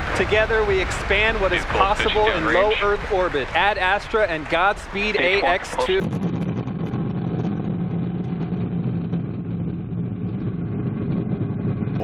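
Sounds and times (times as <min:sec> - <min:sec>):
low hum: 0:00.0 - 0:12.0
rocket engines rumbling: 0:00.0 - 0:12.0.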